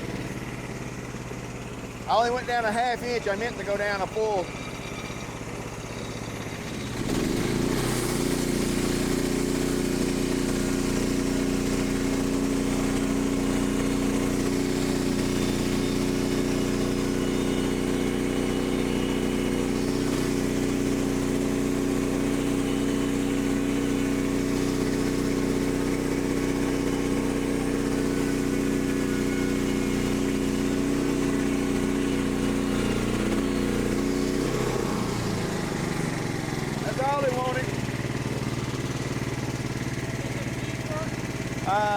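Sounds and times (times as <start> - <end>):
gas engine revving: 0.0 - 41.9.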